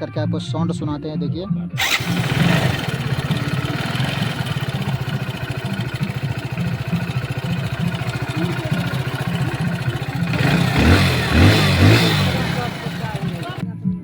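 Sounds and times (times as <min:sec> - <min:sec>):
motorcycle engine idling: 0:01.8 - 0:13.6.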